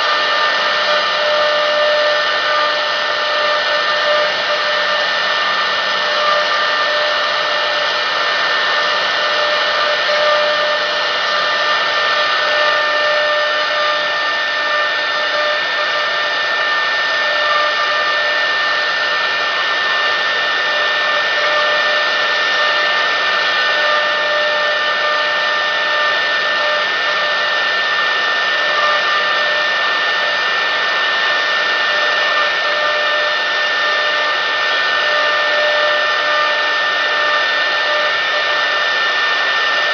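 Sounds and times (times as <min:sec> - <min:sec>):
spindle motor whine: 0:00.0 - 0:39.9.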